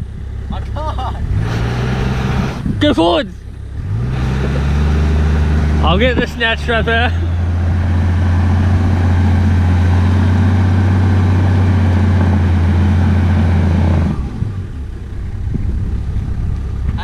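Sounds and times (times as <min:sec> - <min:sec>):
engine at high revs: 0:00.0 - 0:17.0.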